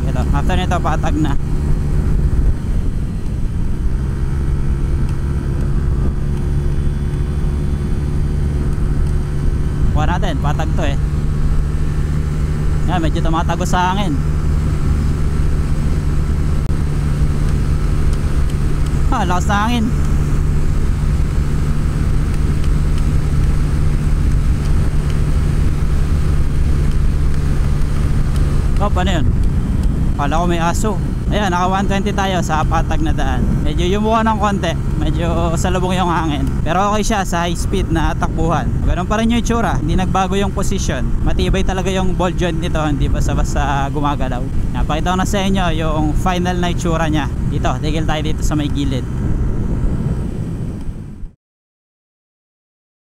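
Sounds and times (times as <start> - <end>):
wind buffeting microphone: 0.0 - 12.9, 14.2 - 51.3
scooter engine droning: 0.0 - 51.4.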